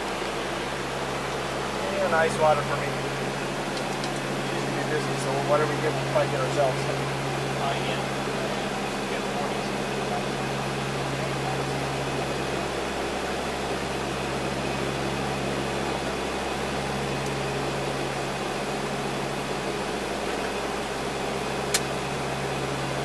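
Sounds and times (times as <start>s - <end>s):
turboprop engines droning: 0.0s - 23.0s.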